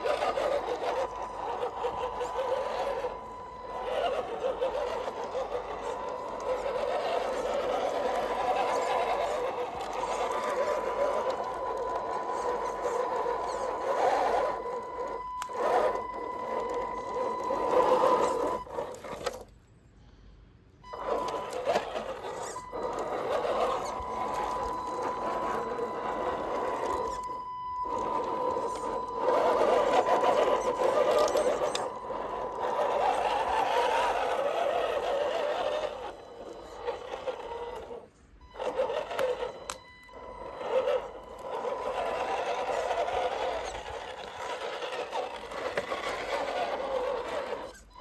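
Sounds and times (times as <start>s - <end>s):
toy truck electric motor whining: 0.0s - 19.5s, 20.8s - 48.0s.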